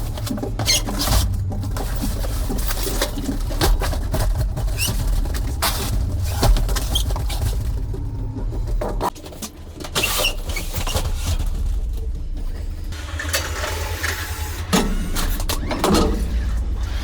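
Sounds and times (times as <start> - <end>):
knocks and clatter: 0.0 - 17.0.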